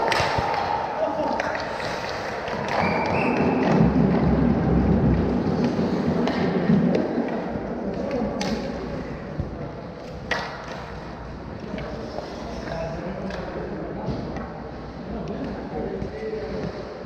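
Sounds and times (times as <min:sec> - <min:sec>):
murmur of voices: 0:00.0 - 0:17.0.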